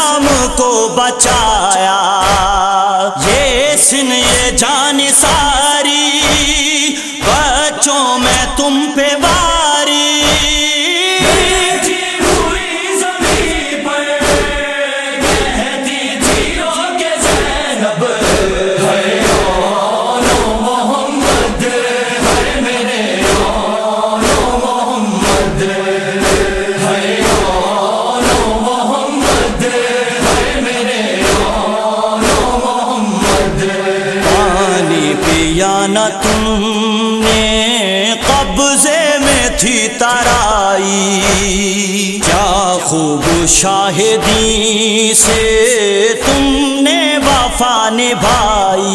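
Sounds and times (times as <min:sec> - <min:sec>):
thumping beat: 0:00.0 - 0:48.8
men chanting a lament: 0:00.0 - 0:48.9.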